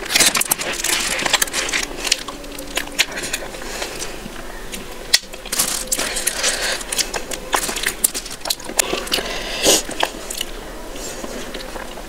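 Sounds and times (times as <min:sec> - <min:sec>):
eating mouth sounds: 0:00.0 - 0:12.0
paper tray crackling: 0:00.0 - 0:12.0.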